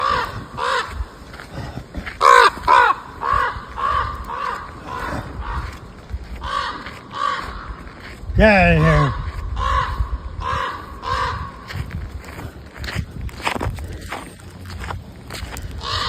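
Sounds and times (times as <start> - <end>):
crows cawing: 0.0 - 12.4, 15.4 - 16.0.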